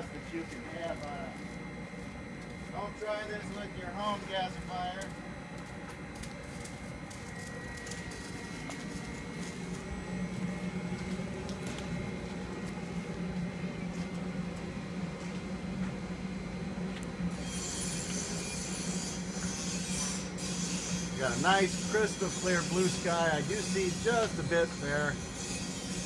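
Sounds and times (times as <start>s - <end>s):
boiler humming: 0.0s - 26.0s.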